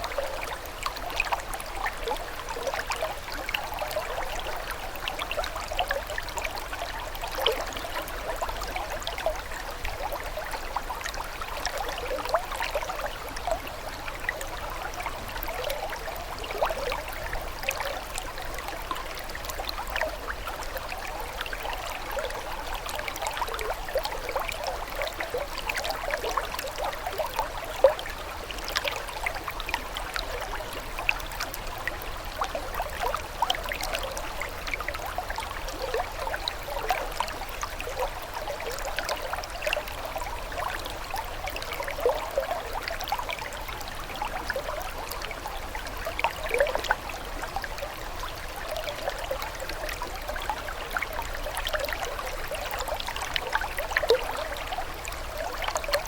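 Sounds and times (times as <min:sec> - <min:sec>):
small water splashes: 0:00.0 - 0:56.0
water trickling and gurgling: 0:00.0 - 0:56.0.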